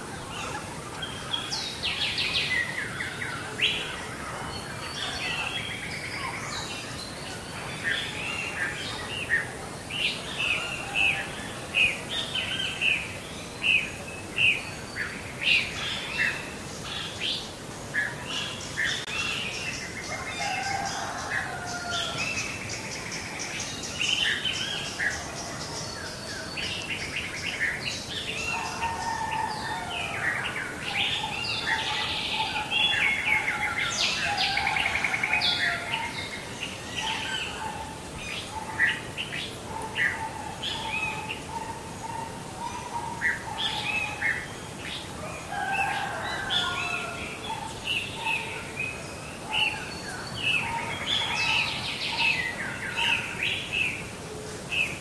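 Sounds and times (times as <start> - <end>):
birds singing: 0.0 - 55.0.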